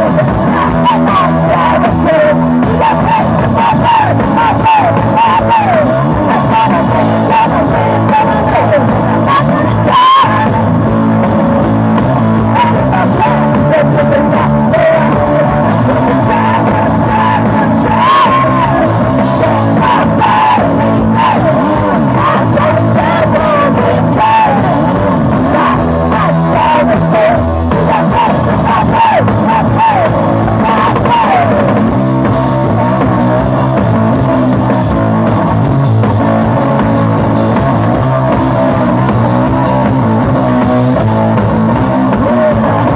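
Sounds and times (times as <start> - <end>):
drums: 0.0 - 42.9
electric guitar: 0.0 - 42.9.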